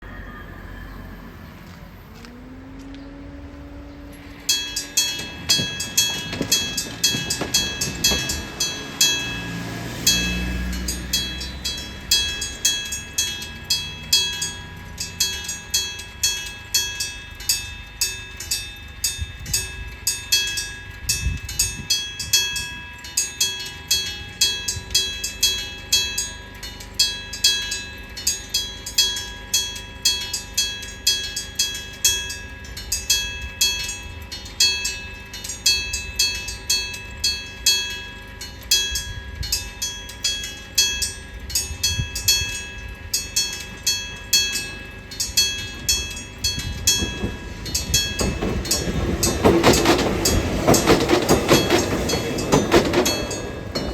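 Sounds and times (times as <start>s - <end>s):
level crossing bell ringing: 0.0s - 53.9s
train rumbling past: 0.0s - 53.9s.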